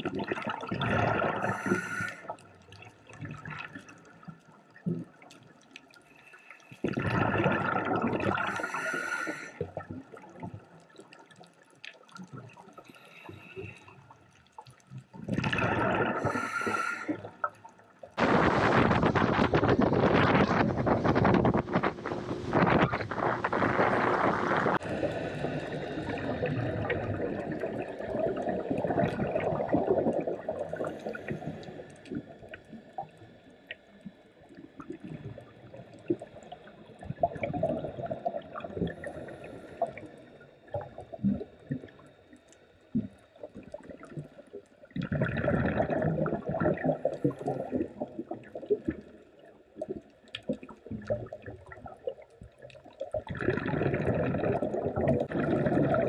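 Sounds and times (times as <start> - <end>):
underwater bubbles gurgling: 0.0 - 56.0.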